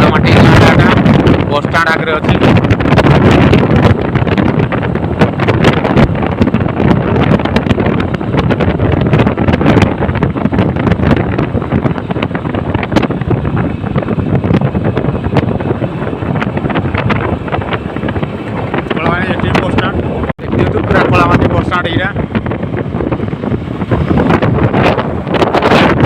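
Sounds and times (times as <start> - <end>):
road and vehicle noise: 0.0 - 26.0
wind buffeting microphone: 0.0 - 26.0.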